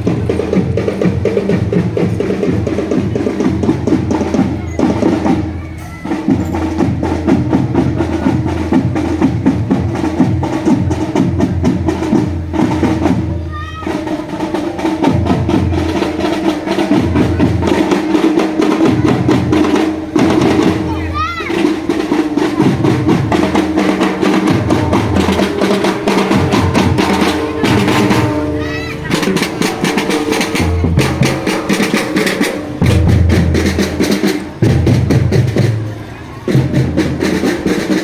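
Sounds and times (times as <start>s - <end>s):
held melodic tone: 0.0s - 38.0s
snare and bass drums beating: 0.0s - 38.0s.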